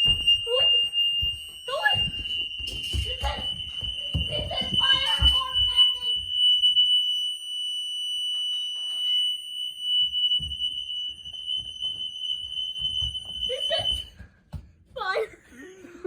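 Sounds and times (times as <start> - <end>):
fire alarm high-pitched tone: 0.0 - 14.5.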